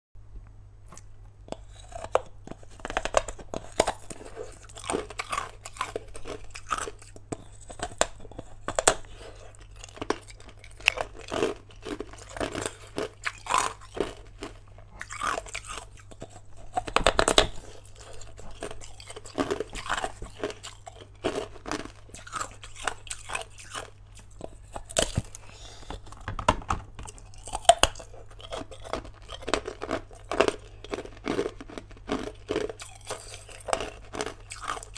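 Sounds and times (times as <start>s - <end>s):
low steady hum: 0.2s - 34.9s
ice crunching between teeth: 0.9s - 26.1s, 27.0s - 34.9s.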